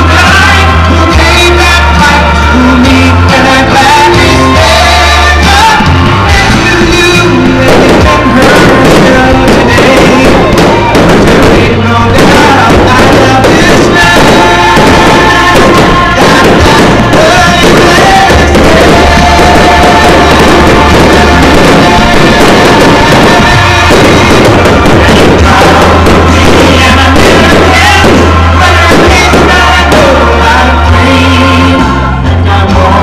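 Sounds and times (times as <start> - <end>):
fireworks banging: 0.0 - 33.0
loud music with heavy bass: 0.0 - 33.0.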